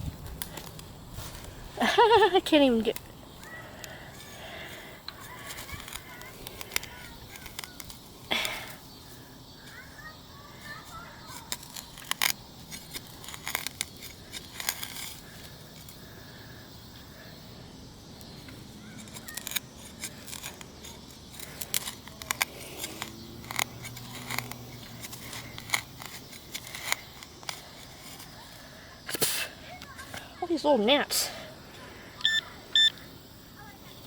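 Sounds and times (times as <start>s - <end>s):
digging tool scraping soil: 0.2s - 16.1s, 18.2s - 30.5s.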